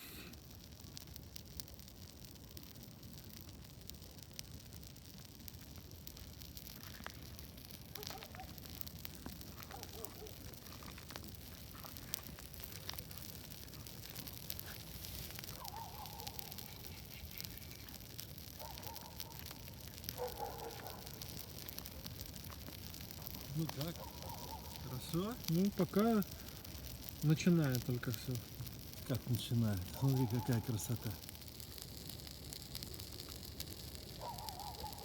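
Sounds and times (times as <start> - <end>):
bonfire crackling and popping: 0.0 - 35.0.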